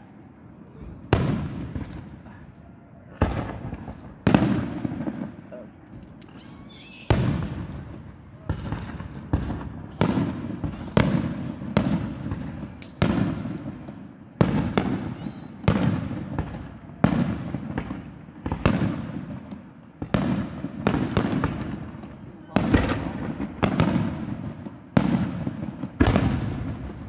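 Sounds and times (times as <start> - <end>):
fireworks booming: 0.6 - 27.0.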